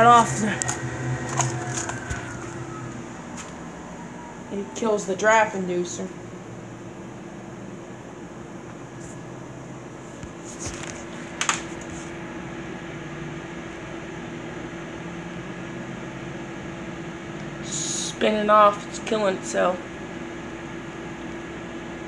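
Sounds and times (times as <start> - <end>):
furnace blower humming: 0.0 - 22.0.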